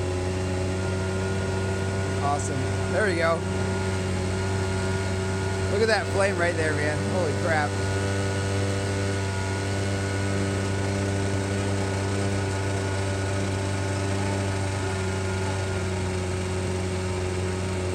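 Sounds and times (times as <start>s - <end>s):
motor blower humming: 0.0s - 17.9s.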